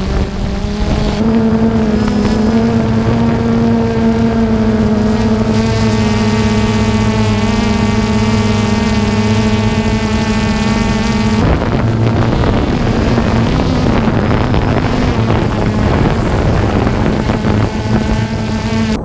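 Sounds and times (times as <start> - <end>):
small electric motor whining: 0.0 - 19.0
wind on microphone: 0.0 - 19.0.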